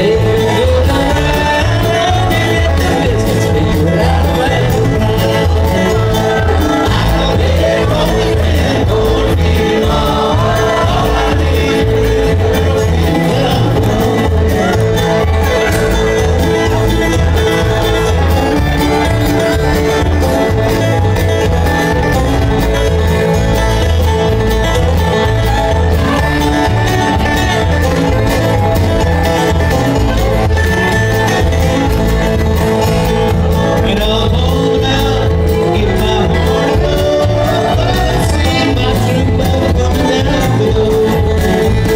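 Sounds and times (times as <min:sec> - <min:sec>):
acoustic guitars: 0:00.0 - 0:41.9
banjo: 0:00.0 - 0:41.9
fiddle: 0:00.0 - 0:41.9
mandolin: 0:00.0 - 0:41.9
upright bass: 0:00.0 - 0:41.9.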